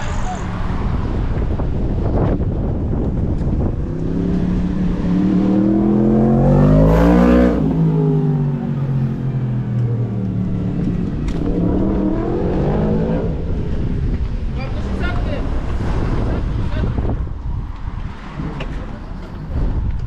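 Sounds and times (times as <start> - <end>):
vehicle engine passing by: 3.6 - 19.9.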